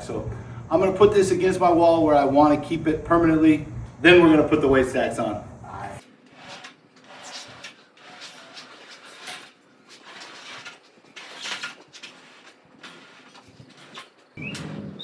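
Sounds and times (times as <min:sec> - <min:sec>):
gym equipment scraping and bumping: 0:00.0 - 0:05.4, 0:06.2 - 0:15.0.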